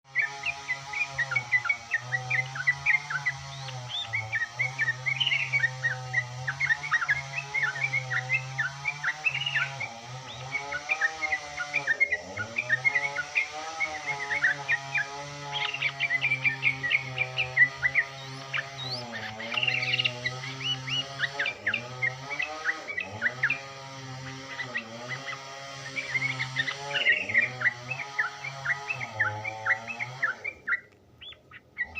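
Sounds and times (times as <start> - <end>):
bird singing chirps and whistles: 0.1 - 23.7, 24.5 - 31.9.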